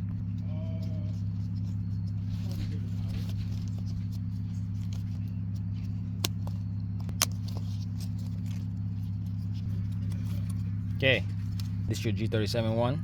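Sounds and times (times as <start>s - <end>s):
shifter parts clicking: 0.0s - 12.9s
low mechanical hum: 0.0s - 13.0s.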